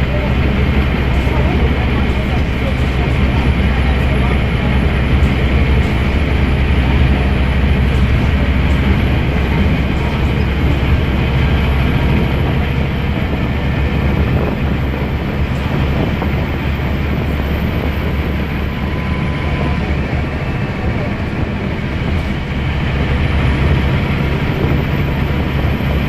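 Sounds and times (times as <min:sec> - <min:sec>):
bus diesel engine running: 0:00.0 - 0:26.0
road noise: 0:00.0 - 0:26.0.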